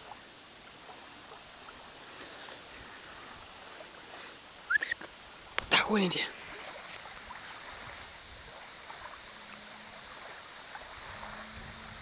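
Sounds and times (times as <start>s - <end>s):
shallow water rushing over sand: 0.0s - 12.0s.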